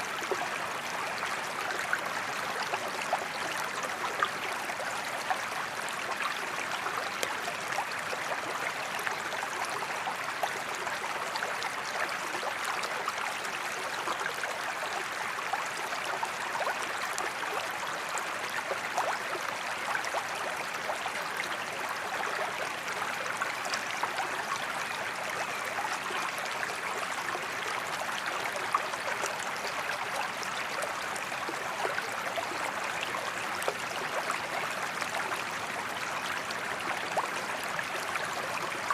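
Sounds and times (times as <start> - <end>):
creek babbling over stones: 0.0 - 38.9.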